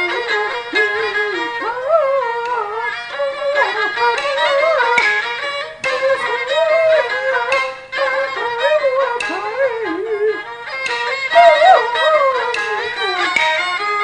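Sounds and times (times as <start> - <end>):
bowed fiddle melody: 0.0 - 14.0.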